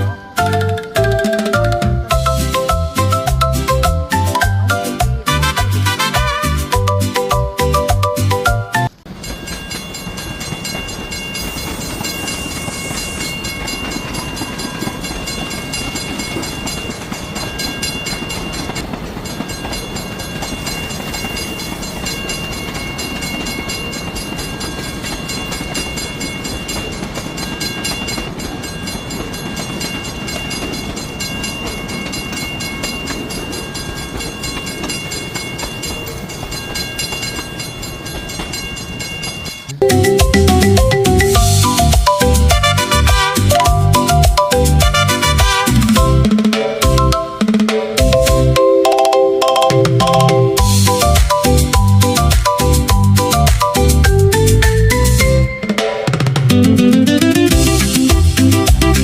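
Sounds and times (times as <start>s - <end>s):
train rumbling on rails: 0.0s - 8.0s, 8.9s - 48.6s, 50.0s - 59.0s.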